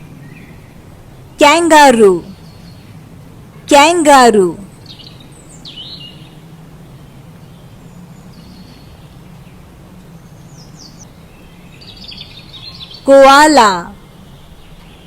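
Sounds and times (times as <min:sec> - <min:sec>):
steady outdoor background noise: 0:00.0 - 0:15.0.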